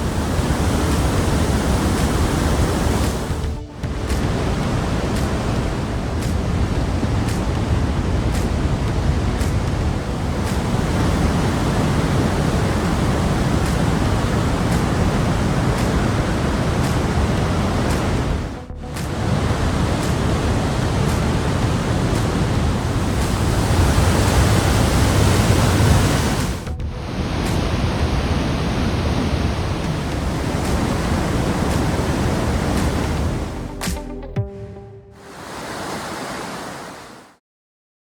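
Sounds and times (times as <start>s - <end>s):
waterfall rushing: 0.0s - 34.0s, 35.2s - 37.3s.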